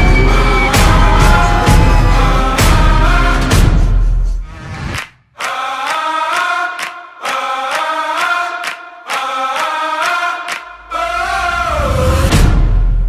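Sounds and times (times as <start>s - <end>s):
chant-like vocal melody: 0.0s - 4.1s, 5.4s - 12.7s.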